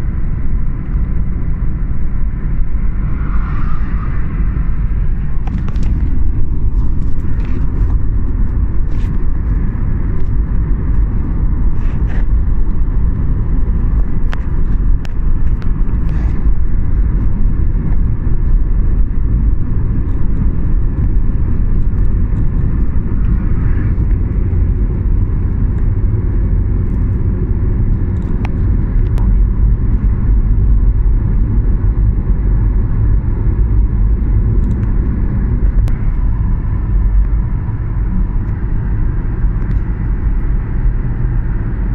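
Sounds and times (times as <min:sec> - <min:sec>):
train rumbling inside carriage: 0:00.0 - 0:41.9.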